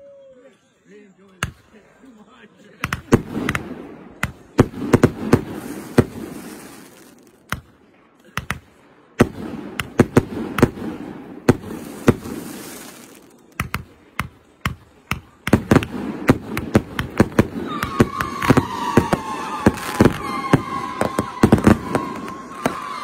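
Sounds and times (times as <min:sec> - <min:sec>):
fireworks banging with echo: 0:02.8 - 0:23.0.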